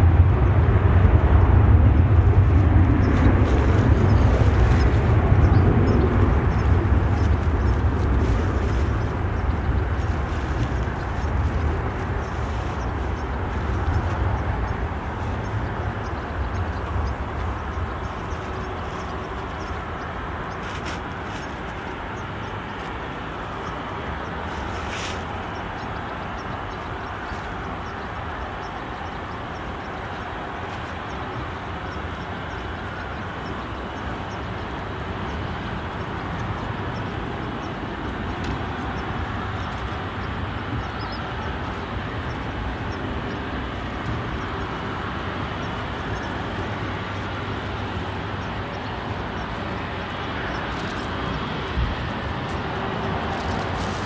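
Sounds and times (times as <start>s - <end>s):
distant jet engines rumbling: 0.0s - 54.0s.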